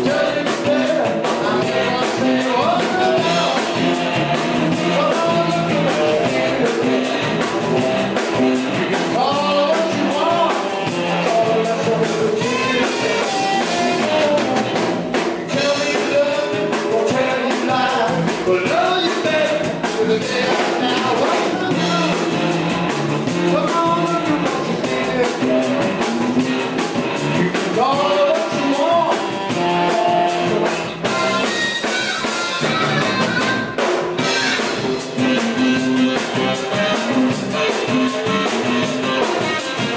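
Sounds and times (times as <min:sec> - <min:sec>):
person singing into microphone: 0:00.0 - 0:22.6, 0:23.3 - 0:26.1, 0:27.2 - 0:34.8
blues-rock band playing: 0:00.0 - 0:39.9.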